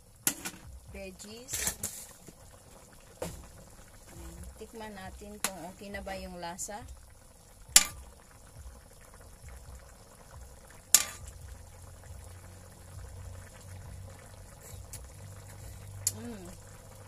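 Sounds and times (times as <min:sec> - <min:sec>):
stew bubbling in a wok: 0:00.0 - 0:17.0.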